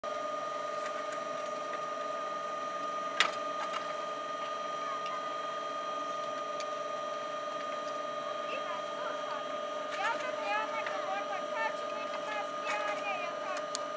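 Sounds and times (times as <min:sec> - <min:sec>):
steady machine whine: 0:00.0 - 0:13.9.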